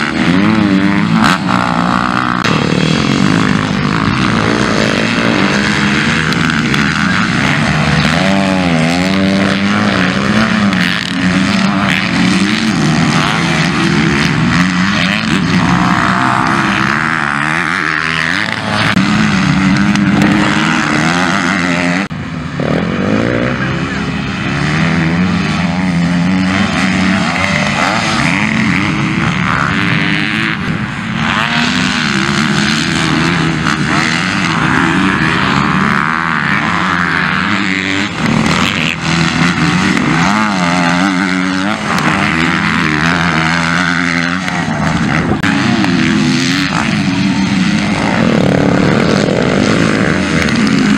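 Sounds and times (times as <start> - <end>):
motocross bikes revving past: 0.0 - 50.9.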